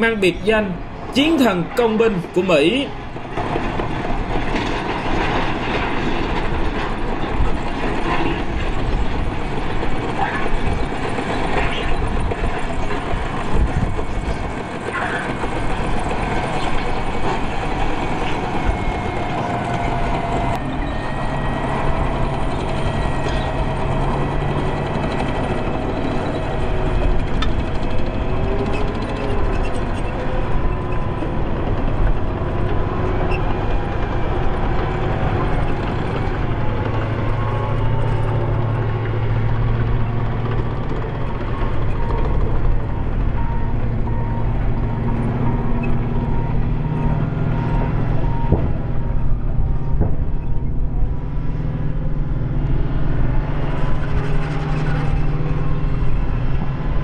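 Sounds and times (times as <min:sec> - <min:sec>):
steel tracks clanking: 0:00.0 - 0:52.6
gas-turbine engine whine: 0:00.0 - 0:57.0.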